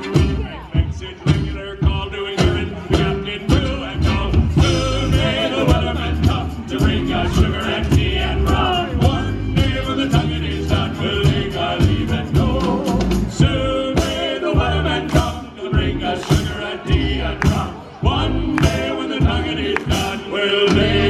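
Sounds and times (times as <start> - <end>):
choir singing: 0.0 - 21.0
loud music with singing: 0.0 - 21.0
steady drum beat: 0.0 - 21.0.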